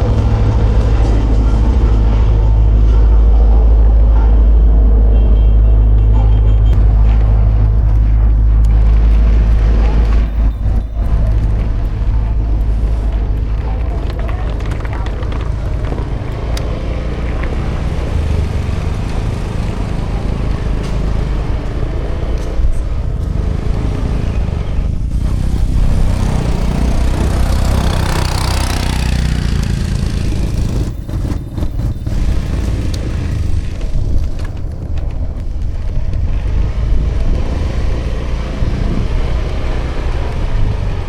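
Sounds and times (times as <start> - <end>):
road and wind noise: 0.0 - 41.0
scooter engine running: 0.0 - 41.0.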